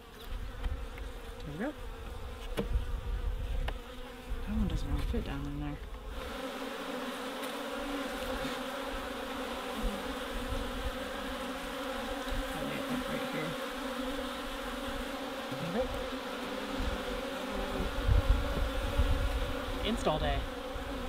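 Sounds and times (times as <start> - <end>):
bees humming: 0.0 - 21.0
single bee flying past: 0.0 - 21.0.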